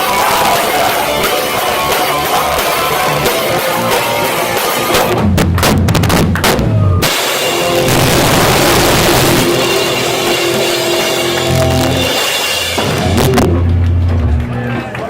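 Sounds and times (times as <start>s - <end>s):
heavy rock band playing live: 0.0s - 13.7s
heavy drum and bass hits: 0.0s - 14.4s.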